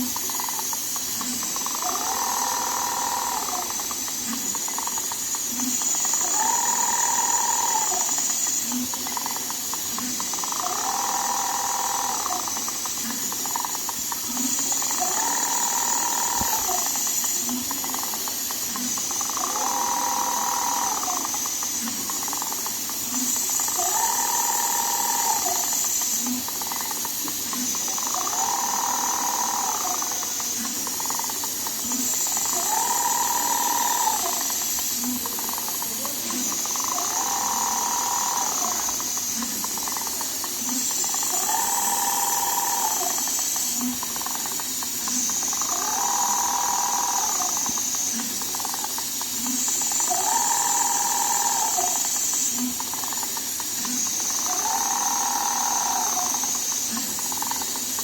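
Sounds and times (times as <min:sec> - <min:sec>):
sewing machine motor whine: 0:00.0 - 0:58.0
soft regular pulses: 0:00.0 - 0:58.0
steady hiss: 0:00.0 - 0:58.0.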